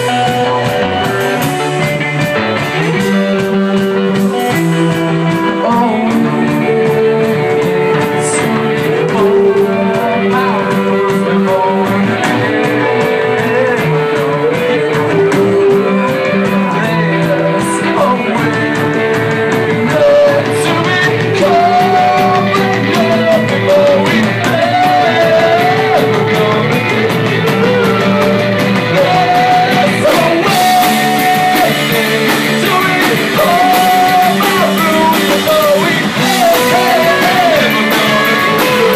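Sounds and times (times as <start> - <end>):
drum kit beat: 0.0 - 38.9
guitar and bass: 0.0 - 38.9.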